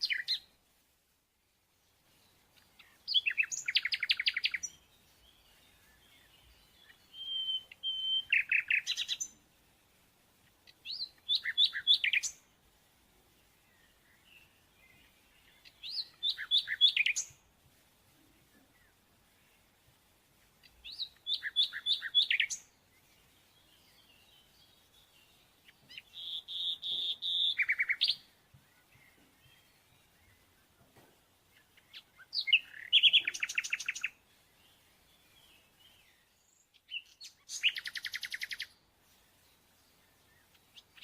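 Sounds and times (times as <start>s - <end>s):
songbird singing: 0.0s - 41.0s.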